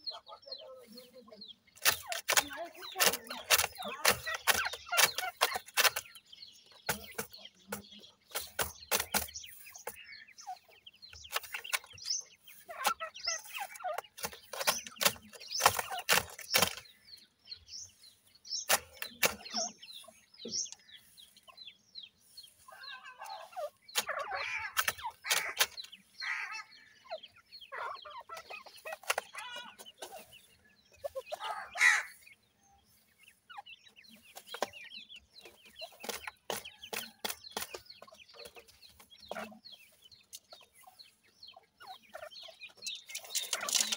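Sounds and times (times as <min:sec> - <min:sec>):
birds pecking and scratching dirt: 0:00.0 - 0:43.9
chicks clucking and chirping: 0:00.0 - 0:43.9.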